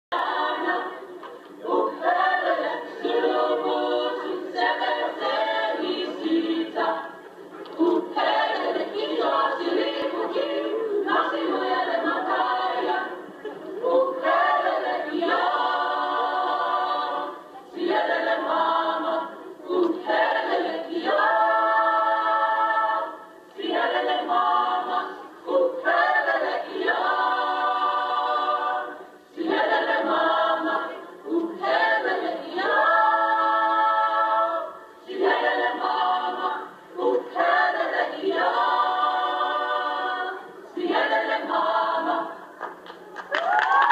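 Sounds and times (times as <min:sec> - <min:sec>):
women's choir singing a cappella: 0:00.0 - 0:42.8.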